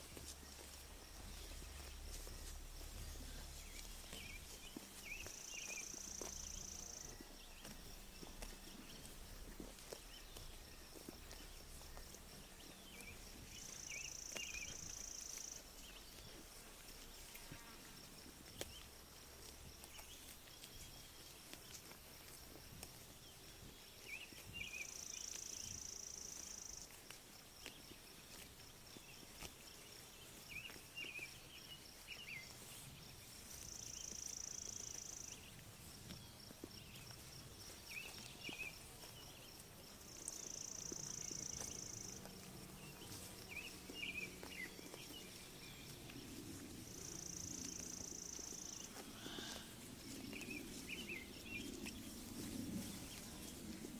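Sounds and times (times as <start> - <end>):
sheep tearing and chewing grass: 0.0 - 53.9
small birds chirping: 0.0 - 53.9.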